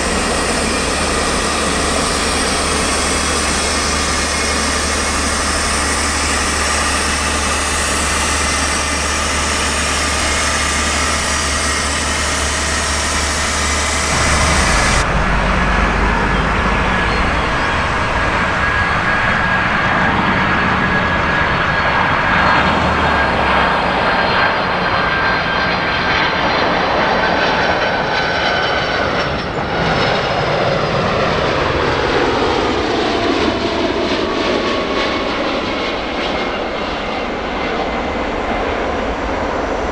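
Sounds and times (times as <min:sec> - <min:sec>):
jet engine high whine: 0:00.0 - 0:39.9
jet engines running: 0:00.0 - 0:39.9.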